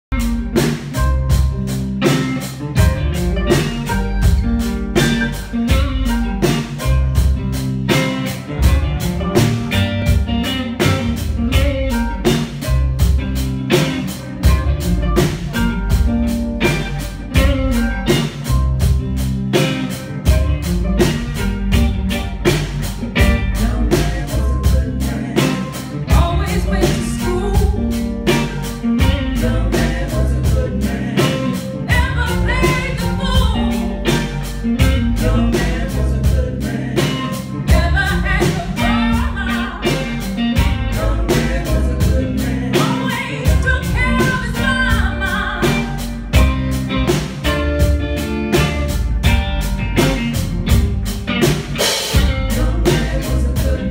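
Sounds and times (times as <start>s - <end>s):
drum kit beat: 0.0s - 53.9s
live band music: 0.0s - 53.9s.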